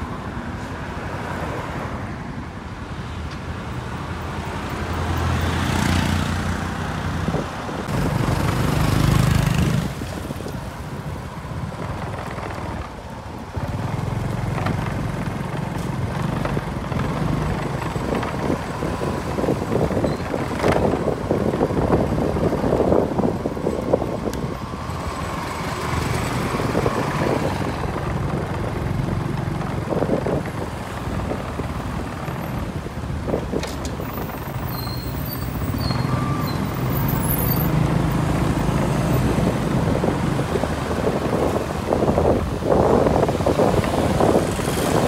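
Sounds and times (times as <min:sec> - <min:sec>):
street noise: 0:00.0 - 0:45.0
car engine low rumble: 0:06.8 - 0:45.0.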